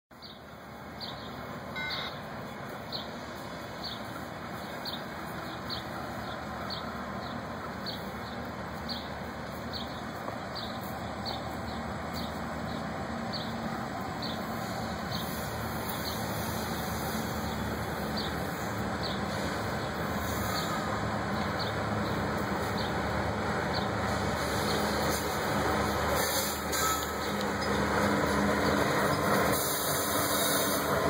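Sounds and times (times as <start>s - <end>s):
diesel locomotive engine rumble: 0.1s - 31.0s.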